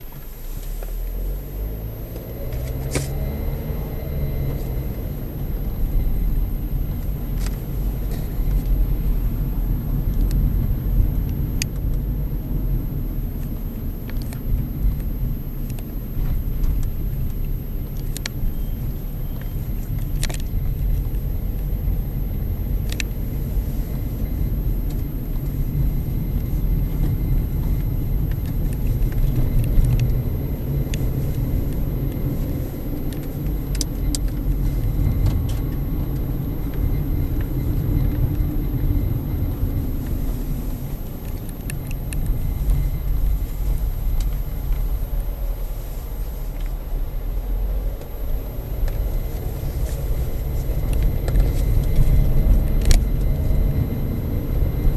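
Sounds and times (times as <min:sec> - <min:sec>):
car engine and tyre rumble: 0:00.0 - 0:54.9.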